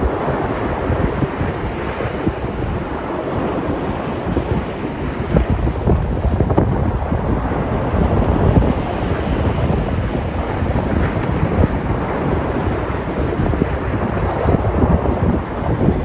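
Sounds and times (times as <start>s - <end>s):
waves breaking: 0.0s - 16.0s
wind buffeting microphone: 0.0s - 16.0s.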